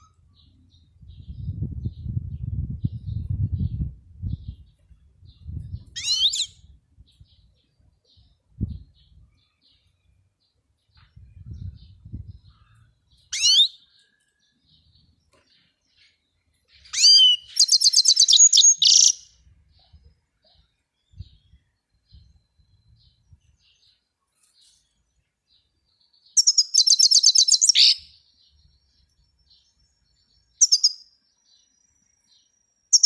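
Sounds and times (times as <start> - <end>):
bird twittering song: 0.0 - 33.0.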